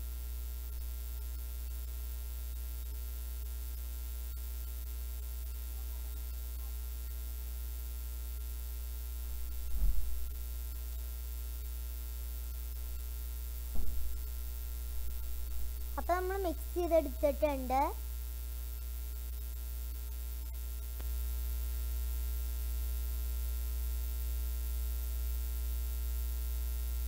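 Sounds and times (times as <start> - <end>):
low electrical hum with hiss: 0.0 - 27.0.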